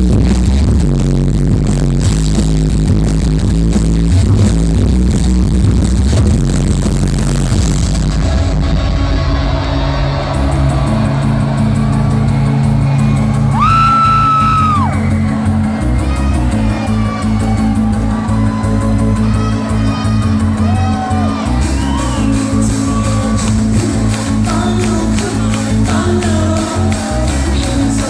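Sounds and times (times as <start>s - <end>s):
electronic dance music with heavy bass: 0.0s - 28.0s.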